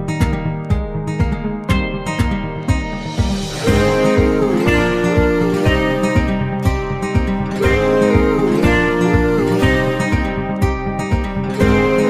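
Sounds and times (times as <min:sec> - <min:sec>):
acoustic guitar music with beat: 0:00.0 - 0:12.0.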